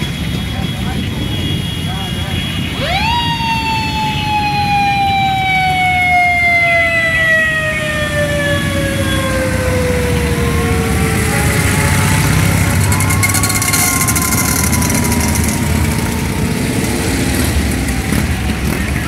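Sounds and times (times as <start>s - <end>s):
engines rumbling: 0.0s - 19.0s
siren wailing: 2.2s - 19.0s.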